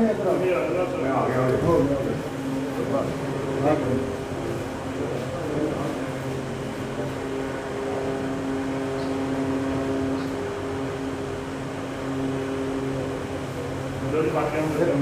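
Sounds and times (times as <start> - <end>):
steady droning hum: 0.0 - 15.0.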